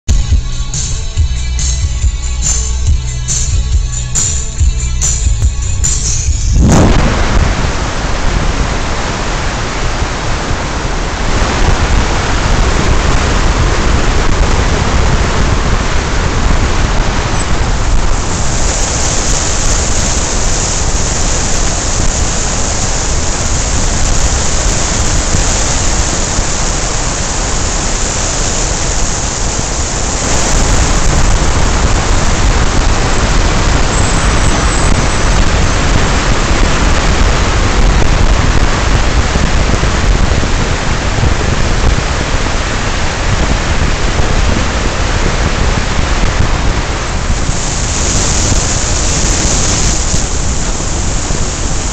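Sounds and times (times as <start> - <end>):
tyre and road noise: 4.4 - 51.9
wind rushing over microphone: 6.5 - 51.9.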